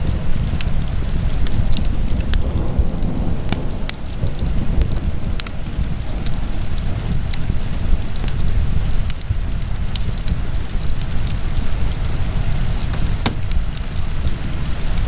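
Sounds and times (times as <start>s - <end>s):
fire crackles and pops: 0.0s - 15.0s
low rumble of fire: 0.0s - 15.0s.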